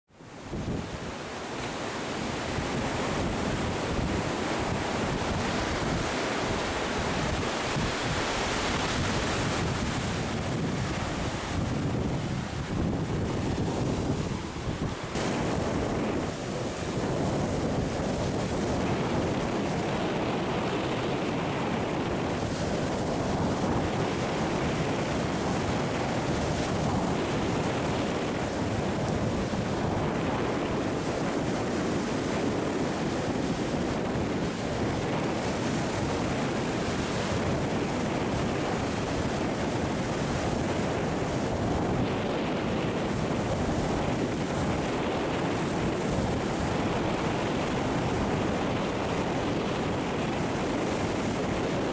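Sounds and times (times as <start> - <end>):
wind buffeting microphone: 0.1 - 51.9
sea surf breaking on rocks: 0.2 - 51.9.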